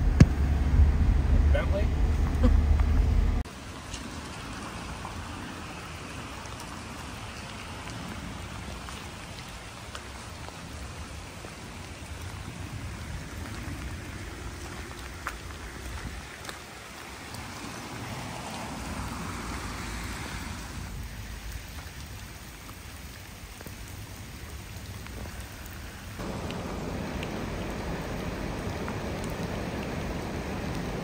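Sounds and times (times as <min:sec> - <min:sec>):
rain hissing: 0:00.0 - 0:31.0
storm water running through street: 0:00.0 - 0:31.0.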